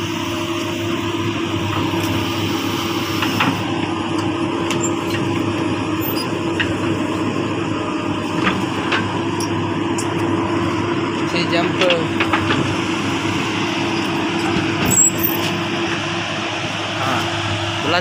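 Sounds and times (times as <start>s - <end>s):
excavator diesel engines running: 0.0s - 18.0s.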